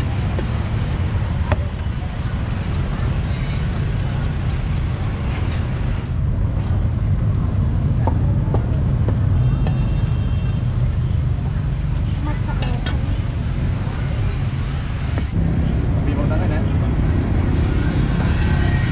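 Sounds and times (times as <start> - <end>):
street traffic rumble: 0.0 - 18.9.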